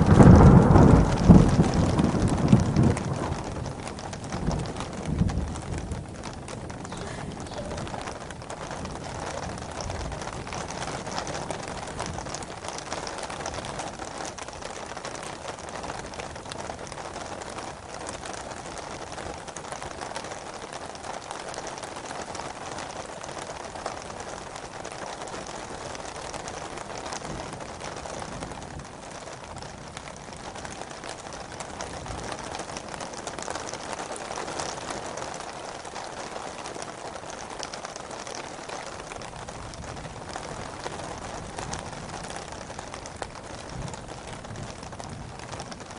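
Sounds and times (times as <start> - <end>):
raindrop taps: 0.0 - 45.9
steady rain hiss: 0.0 - 45.9.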